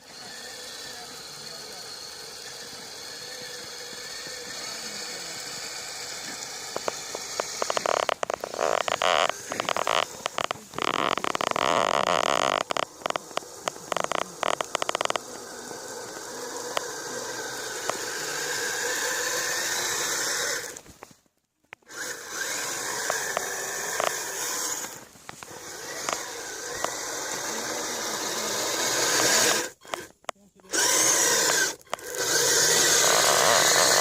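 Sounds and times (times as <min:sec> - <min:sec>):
toy snowcat electric drive and tracks: 0:00.0 - 0:34.0.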